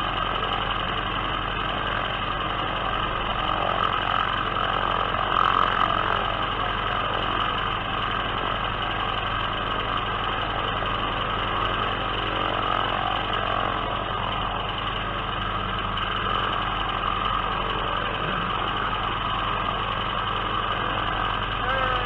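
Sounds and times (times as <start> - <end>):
biplane engine droning: 0.0 - 22.0.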